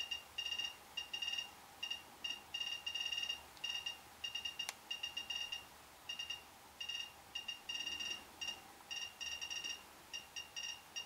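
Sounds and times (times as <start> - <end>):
high electronic beeps: 0.0 - 11.0.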